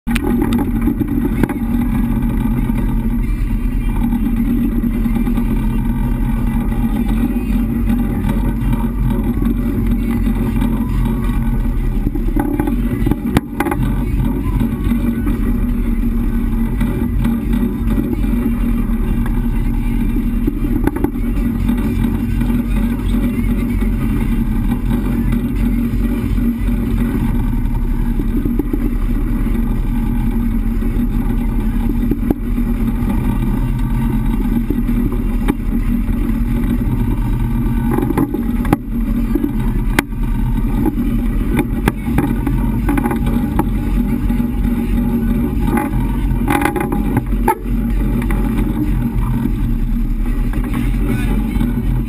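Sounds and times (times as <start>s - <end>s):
boat engine droning: 0.0s - 52.0s
rushing water of boat wake: 0.1s - 52.0s.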